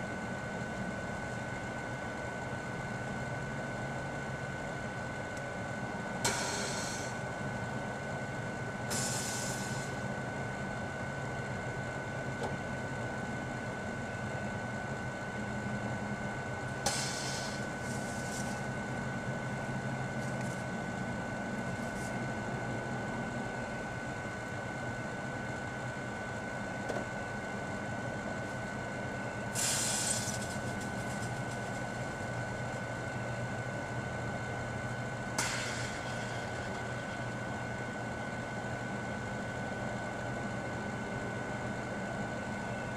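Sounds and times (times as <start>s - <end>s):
constant high whine: 0.0s - 42.9s
microwave oven humming: 0.0s - 42.9s.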